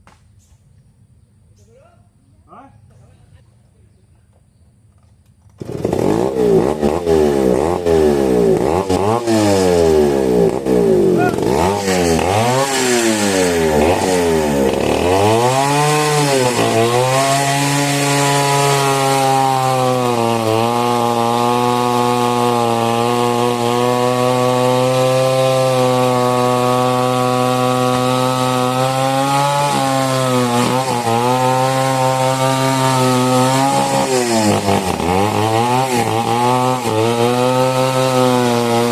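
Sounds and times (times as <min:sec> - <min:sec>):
chainsaw cutting wood: 0:05.2 - 0:38.9
chainsaw revving: 0:05.5 - 0:38.9.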